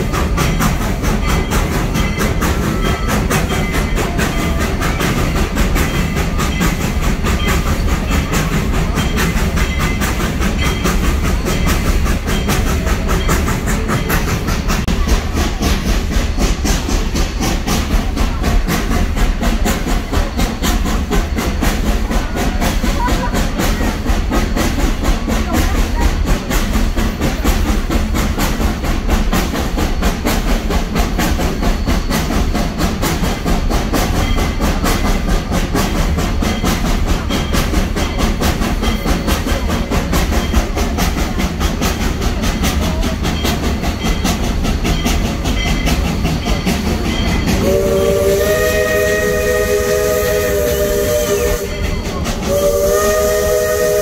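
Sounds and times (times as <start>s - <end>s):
steam locomotive hissing: 0.0s - 54.0s
train low rumble: 0.0s - 54.0s
wheels clattering on rails: 0.0s - 54.0s.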